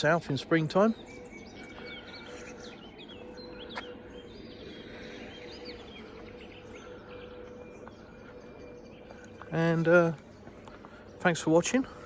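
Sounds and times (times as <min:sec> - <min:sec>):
faint steady hum: 0:00.0 - 0:12.0
small birds singing: 0:00.0 - 0:12.0.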